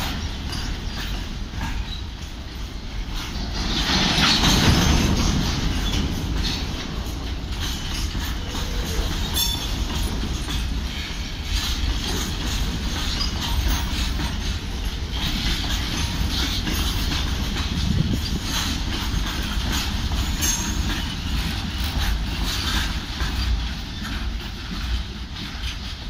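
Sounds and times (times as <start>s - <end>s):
freight train rumbling past: 0.0s - 26.0s
wheels clattering over rail joints: 0.0s - 26.0s.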